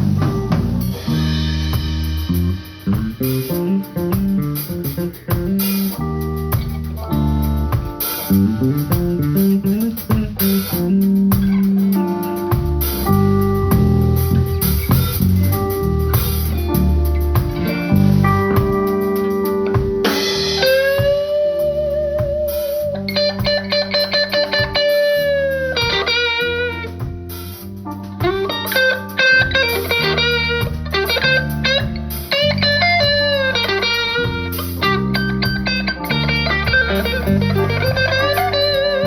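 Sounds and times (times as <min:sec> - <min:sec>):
electric guitar solo: 0:00.0 - 0:39.0
live blues band playing: 0:00.0 - 0:39.0.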